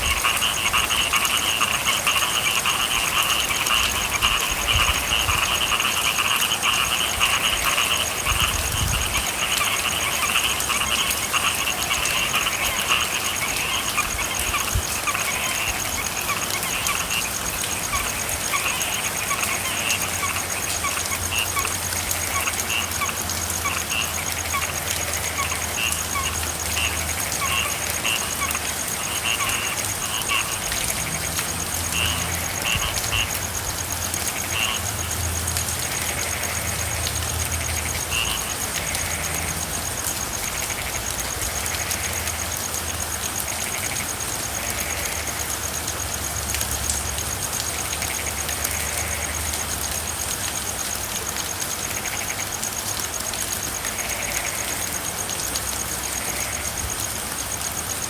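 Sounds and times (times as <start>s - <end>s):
frogs croaking: 0.0s - 58.0s
steady rain: 0.0s - 58.0s.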